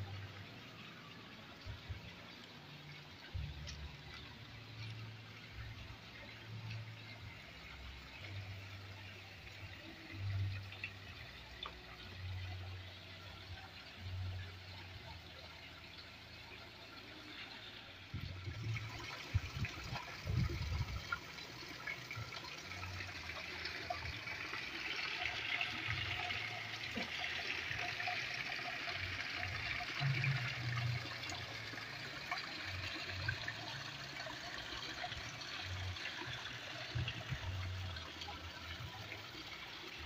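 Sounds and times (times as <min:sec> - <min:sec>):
waterfall trickling into pond: 0:00.0 - 0:40.0.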